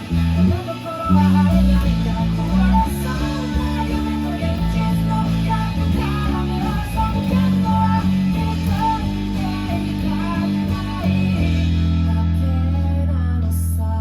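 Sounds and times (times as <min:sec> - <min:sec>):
electric bass line: 0:00.0 - 0:14.0
guitar melody: 0:00.0 - 0:14.0.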